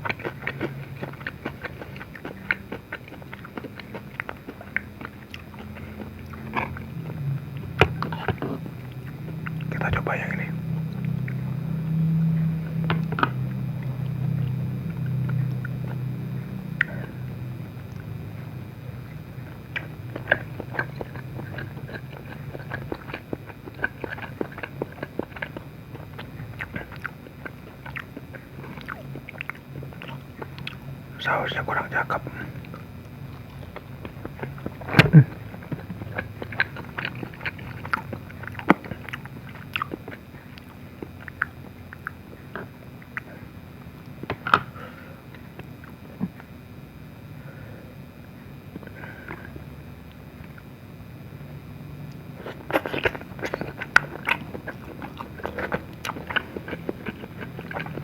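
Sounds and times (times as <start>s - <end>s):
chewing with wet mouth clicks: 0.0s - 11.6s, 12.3s - 18.2s, 19.0s - 46.5s, 52.0s - 58.0s.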